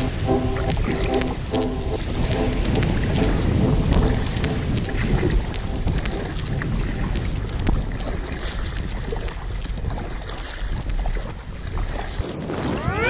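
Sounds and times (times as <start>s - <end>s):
paddle splashing water: 0.0s - 13.0s
strong wind buffeting microphone: 0.0s - 13.0s.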